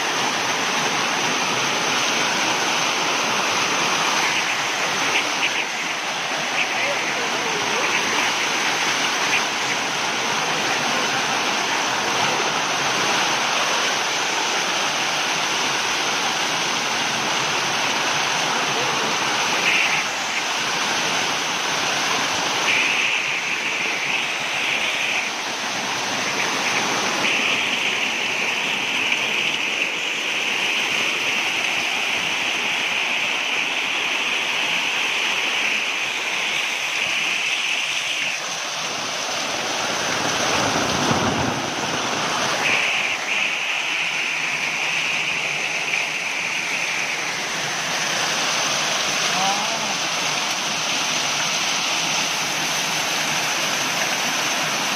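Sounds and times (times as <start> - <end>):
rainwater rushing down stone steps: 0.0 - 54.9.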